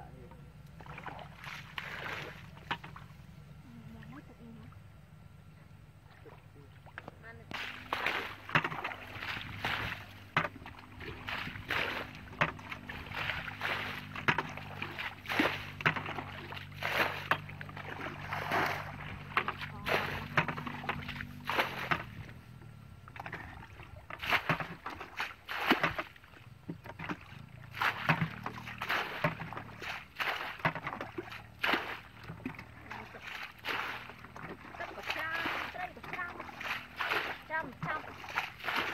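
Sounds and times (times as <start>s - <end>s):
low steady hum: 0.0s - 38.9s
shallow water sloshing and splashing: 0.7s - 38.9s.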